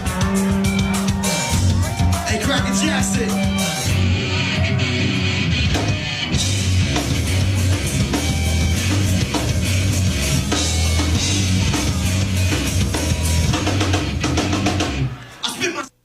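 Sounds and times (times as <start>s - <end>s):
drum kit beat: 0.0s - 15.2s
heavy bass line: 0.0s - 15.2s.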